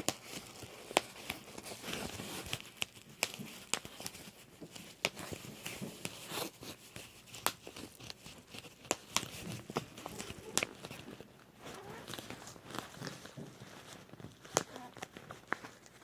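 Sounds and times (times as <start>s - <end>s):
bubble wrap popping: 0.0s - 16.0s
plastic sheet crinkling: 0.0s - 16.0s.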